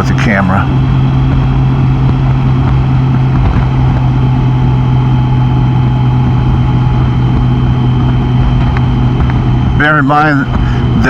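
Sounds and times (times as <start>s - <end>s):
motorcycle engine drone: 0.0s - 11.0s
wind and road noise: 0.0s - 11.0s.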